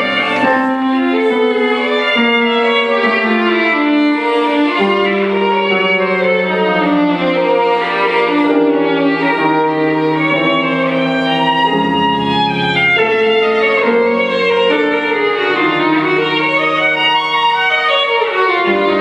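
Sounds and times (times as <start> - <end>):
violin music: 0.0 - 19.0.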